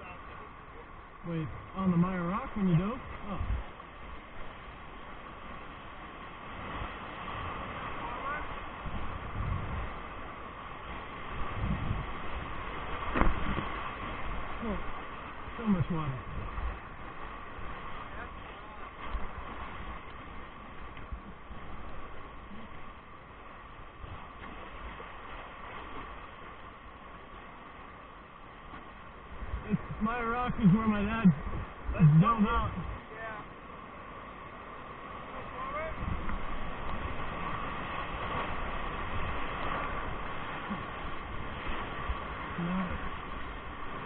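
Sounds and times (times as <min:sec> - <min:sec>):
whitewater rapids rushing: 0:00.0 - 0:44.0.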